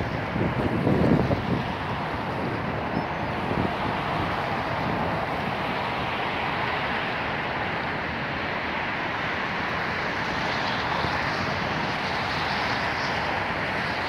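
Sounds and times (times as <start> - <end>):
open-air rushing ambience: 0.0 - 14.0.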